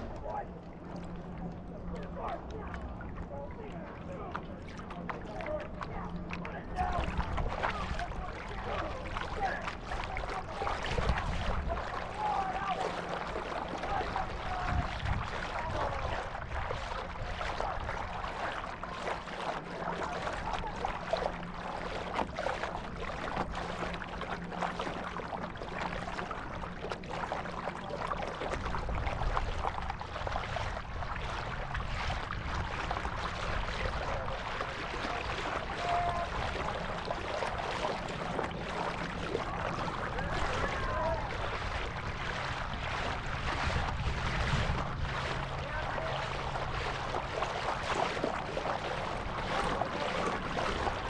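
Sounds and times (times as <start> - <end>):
faint steady hum: 0.0 - 51.0
water rushing along boat hull: 0.0 - 51.0
wind rumbling on microphone: 0.0 - 51.0.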